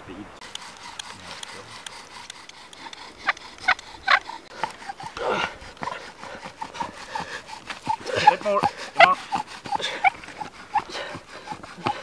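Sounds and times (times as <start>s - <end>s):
bow drill squeaking: 0.4s - 12.0s.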